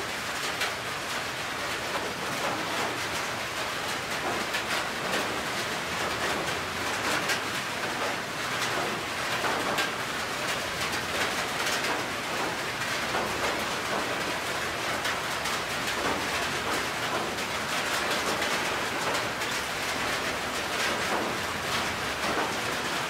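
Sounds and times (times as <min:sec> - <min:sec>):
rain on a metal roof: 0:00.0 - 0:23.0.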